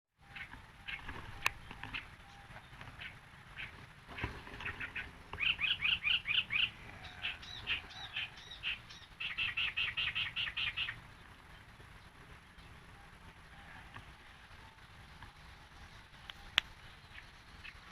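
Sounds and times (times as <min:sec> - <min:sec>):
bird chattering song: 0:00.2 - 0:17.9.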